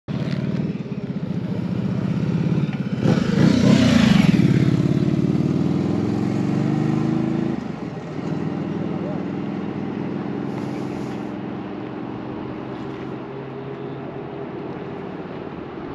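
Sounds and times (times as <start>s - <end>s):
motorcycle engine revving: 0.1s - 13.6s.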